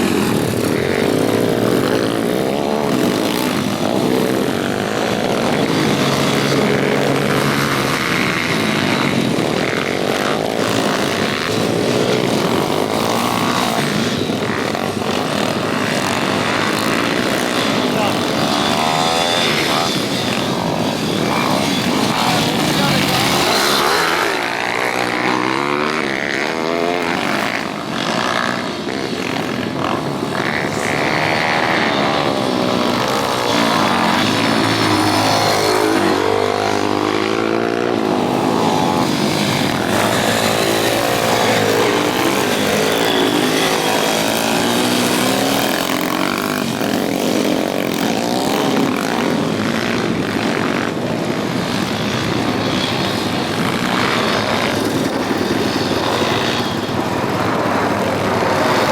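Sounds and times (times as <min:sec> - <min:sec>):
pit bike engines revving: 0:00.0 - 0:58.9.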